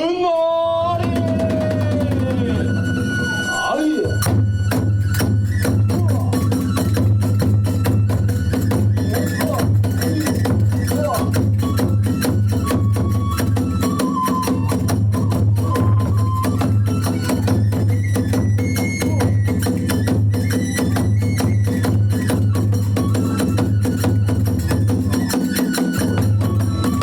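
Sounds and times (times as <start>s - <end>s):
bamboo flute melody: 0.6s - 27.0s
drum beating fast rhythm: 0.8s - 27.0s.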